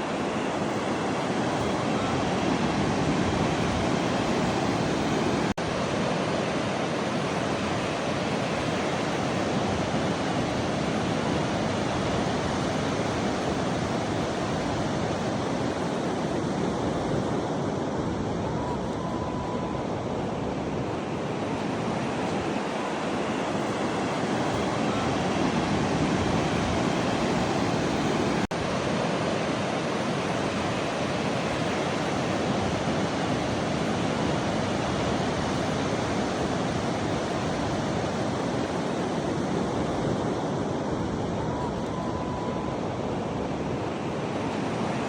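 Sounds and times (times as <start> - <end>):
ocean surf washing: 0.0 - 45.0
wind noise: 0.0 - 45.0.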